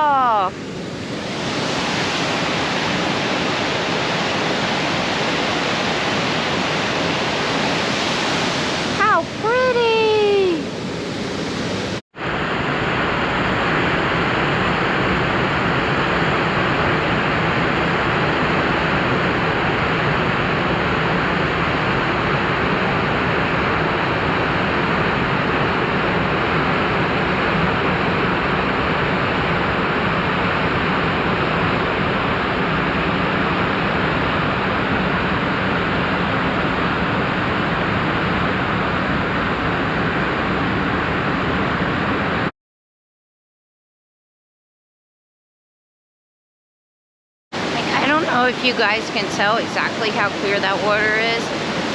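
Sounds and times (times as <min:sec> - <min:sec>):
waterfall roaring: 0:00.0 - 0:42.5, 0:47.6 - 0:51.9.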